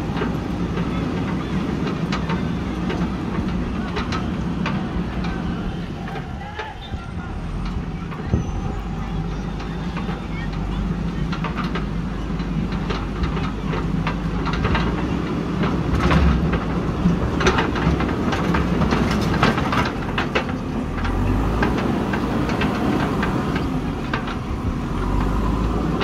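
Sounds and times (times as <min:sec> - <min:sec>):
diesel engine running: 0:00.0 - 0:26.0
machine clanks and rattles: 0:00.0 - 0:26.0.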